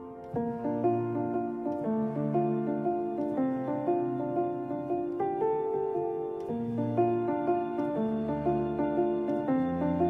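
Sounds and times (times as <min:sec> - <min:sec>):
piano playing a run of notes: 0:00.0 - 0:10.0.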